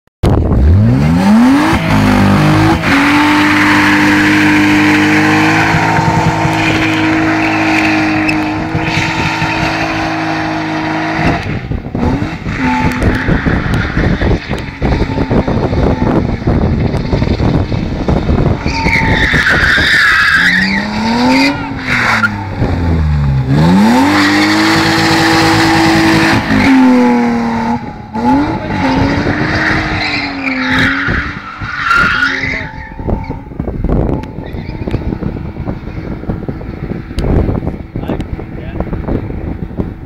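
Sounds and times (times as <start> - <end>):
car engine revving: 0.3 - 40.0.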